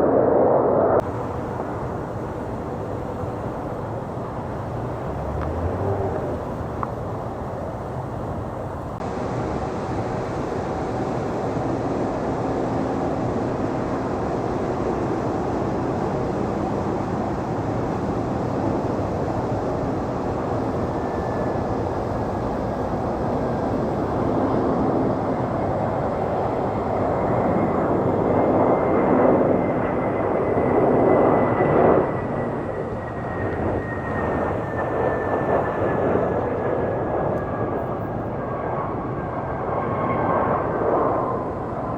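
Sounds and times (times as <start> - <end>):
jet engines passing: 0.0 - 41.9.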